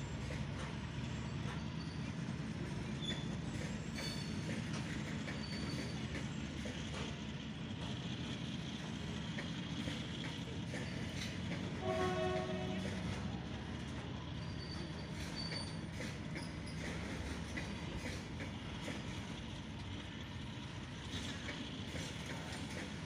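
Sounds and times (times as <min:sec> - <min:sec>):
faint high wheel squeaks: 0:00.0 - 0:08.2, 0:08.8 - 0:23.0
train wheels rumbling on rails: 0:00.0 - 0:23.0.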